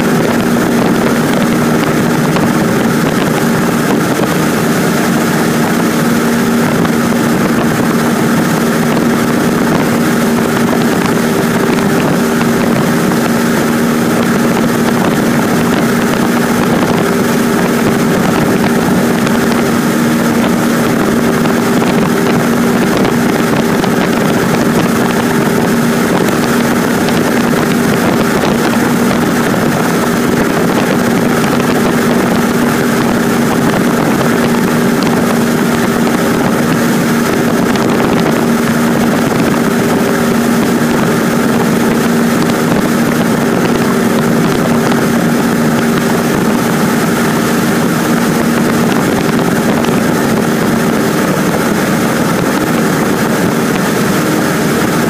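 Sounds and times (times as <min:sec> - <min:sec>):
small plane engine droning: 0:00.0 - 0:55.0.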